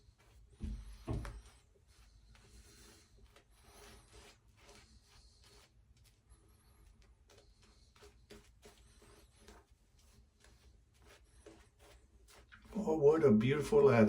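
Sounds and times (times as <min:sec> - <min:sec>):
shaving brush swishing lather: 0:00.0 - 0:14.0.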